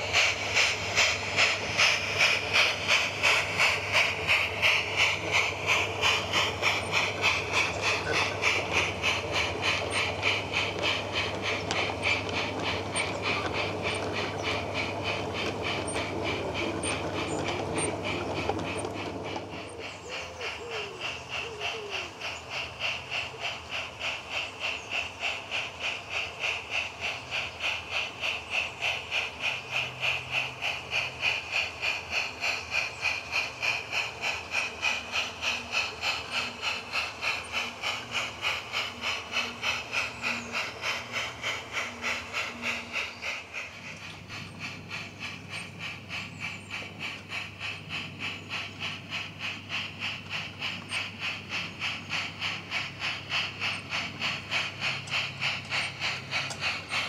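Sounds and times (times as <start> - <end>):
simulated steam locomotive chuffing: 0.0 - 57.0
steam hiss: 0.0 - 57.0.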